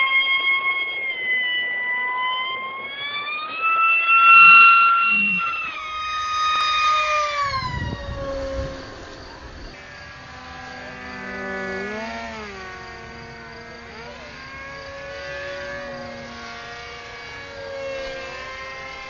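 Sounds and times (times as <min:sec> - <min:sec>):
model aircraft engine buzzing: 0:00.0 - 0:19.0.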